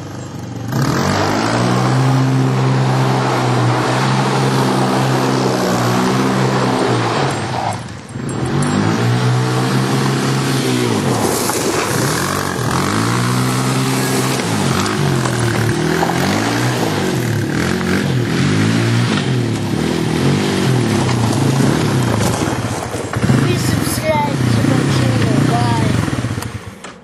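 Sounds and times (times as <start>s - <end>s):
quad engine revving: 0.0s - 26.9s.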